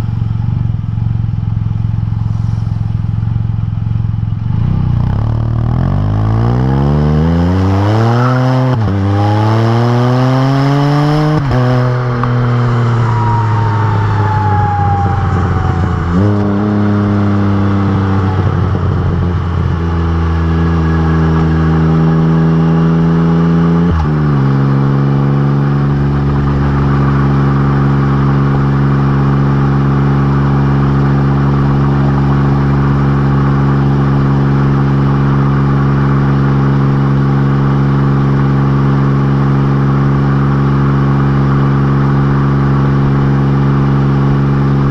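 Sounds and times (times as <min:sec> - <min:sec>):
motorcycle engine accelerating through gears: 0:00.0 - 0:44.9.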